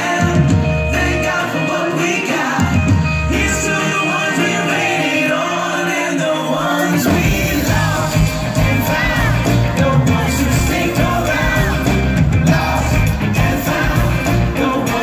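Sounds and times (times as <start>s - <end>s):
electric guitar: 0.0s - 15.0s
live pop-rock band: 0.0s - 15.0s
people singing into microphones: 0.0s - 15.0s.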